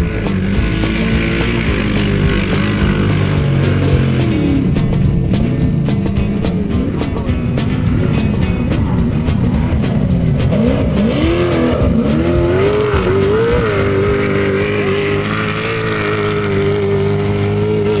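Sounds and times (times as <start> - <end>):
race vehicle engine accelerating: 0.0 - 18.0.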